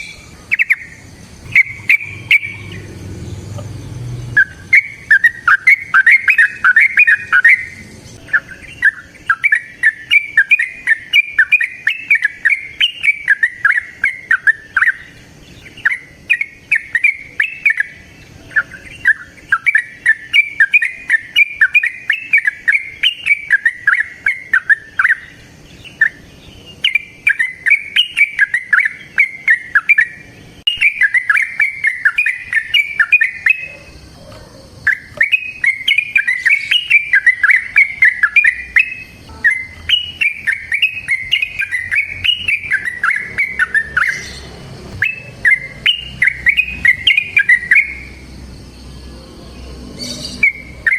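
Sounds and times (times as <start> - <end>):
bulbul singing rolling song: 0.0 - 50.9.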